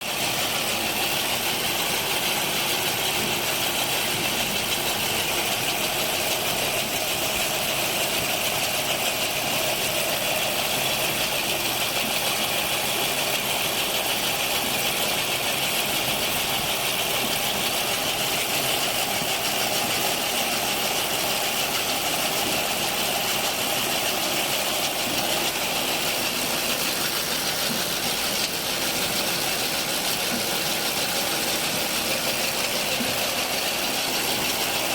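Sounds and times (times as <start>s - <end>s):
harvesting machine running: 0.0s - 34.9s.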